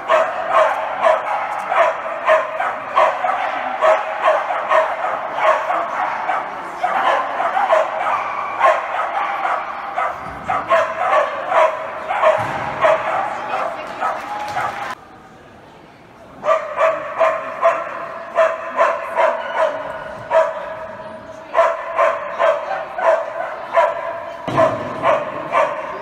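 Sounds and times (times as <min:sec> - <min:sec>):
dog barking: 0:00.0 - 0:14.9, 0:16.4 - 0:26.0.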